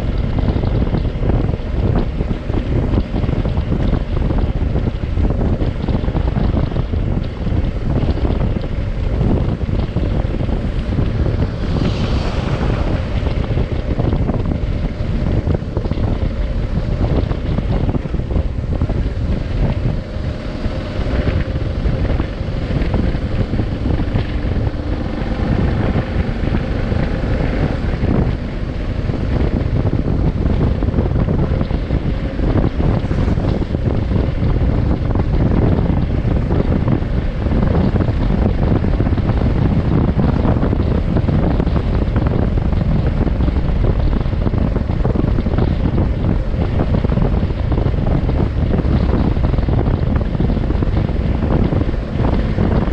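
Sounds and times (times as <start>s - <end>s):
faint motorcycle engine hum: 0.0s - 52.9s
wind buffeting microphone: 0.0s - 52.9s.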